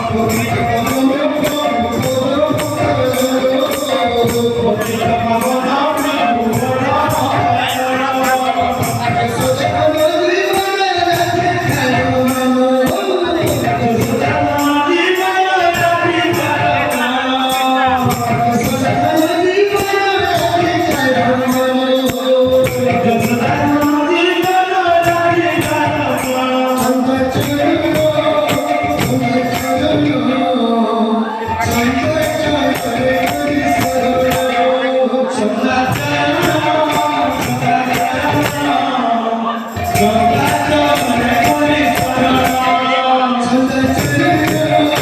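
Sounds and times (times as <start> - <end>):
jingling hand cymbals: 0.0 - 30.7, 31.4 - 45.0
man singing devotional melody: 0.0 - 45.0.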